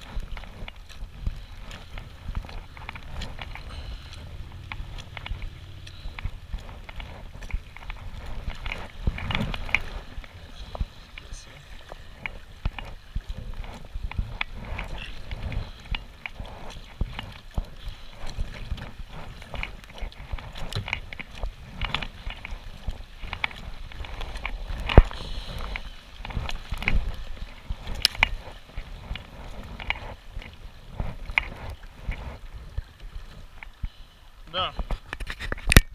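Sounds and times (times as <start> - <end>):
paddle splashing in water: 0.0 - 35.9
water sloshing: 0.0 - 35.9.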